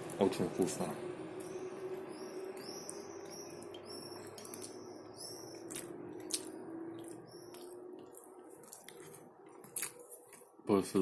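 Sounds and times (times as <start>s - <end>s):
birds chirping: 0.0s - 11.0s
faint steady hum: 0.0s - 11.0s
wet chewing and smacking: 1.4s - 10.6s.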